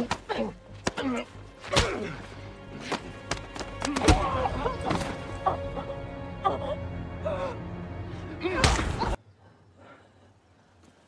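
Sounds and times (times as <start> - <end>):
film score music: 0.0 - 9.2.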